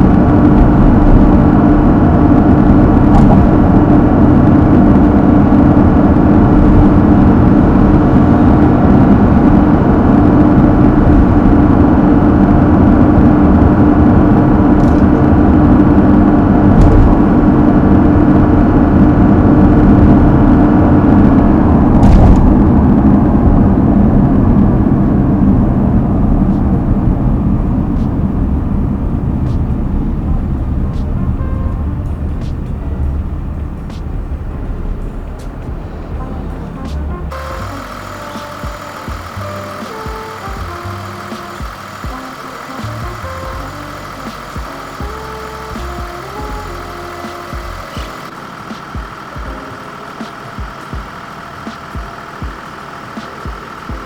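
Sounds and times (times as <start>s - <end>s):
diesel car engine running: 0.0s - 54.0s
road noise: 0.0s - 54.0s.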